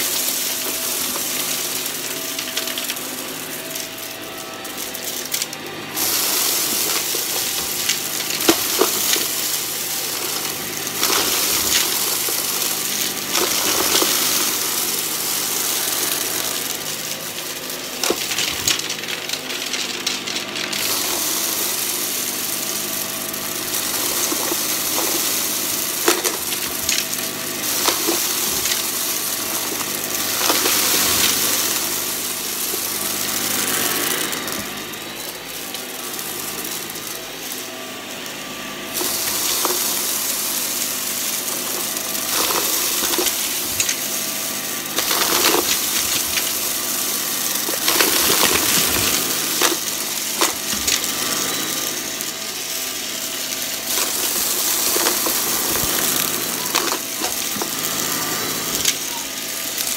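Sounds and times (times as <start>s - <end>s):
suction hiss: 0.0s - 59.2s
debris crackling in vacuum: 0.0s - 59.9s
vacuum cleaner motor: 0.0s - 59.9s.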